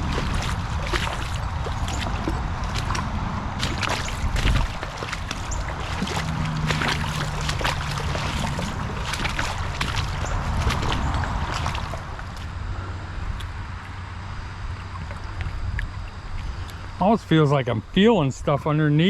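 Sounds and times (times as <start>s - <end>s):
creek water splashing: 0.0s - 12.6s, 14.2s - 18.7s
low steady hum: 0.0s - 19.0s
wind and microphone handling: 0.0s - 19.0s.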